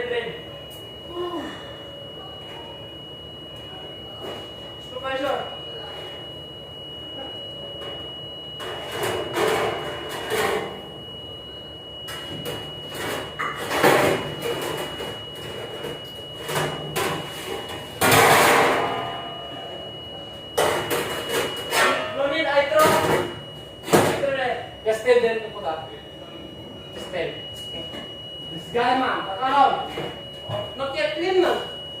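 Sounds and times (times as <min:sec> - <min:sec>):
high-pitched machine tone: 0:00.0 - 0:32.0.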